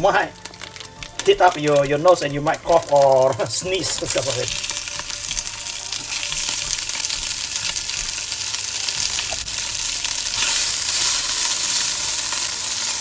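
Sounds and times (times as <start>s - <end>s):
curry paste sizzling in oil: 0.0s - 13.0s.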